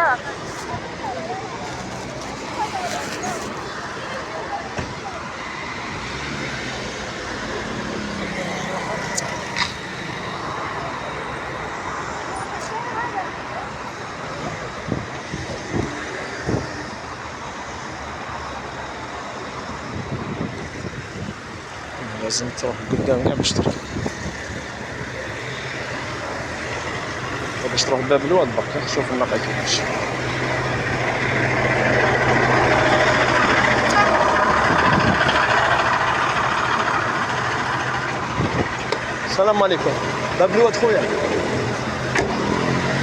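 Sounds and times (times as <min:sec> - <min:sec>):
city street traffic: 0:00.0 - 0:43.0
vehicle engine running: 0:00.0 - 0:43.0.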